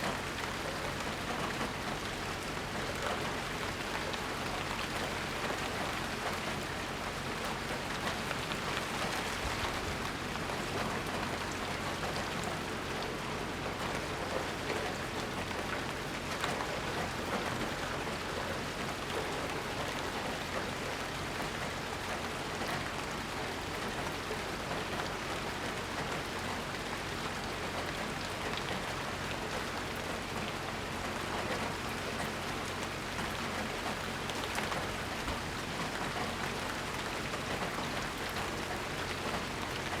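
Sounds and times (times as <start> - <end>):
rain drops pattering: 0.0 - 40.0.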